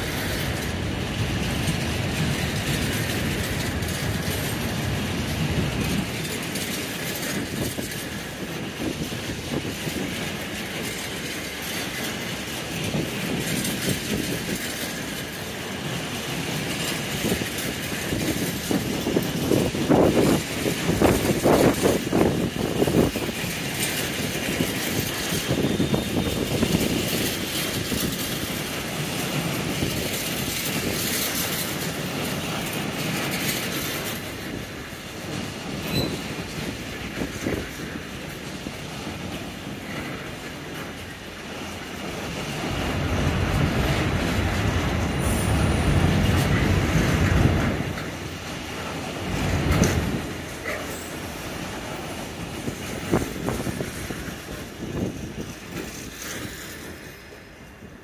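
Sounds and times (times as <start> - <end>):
train wheels rumbling and clacking: 0.0 - 58.0.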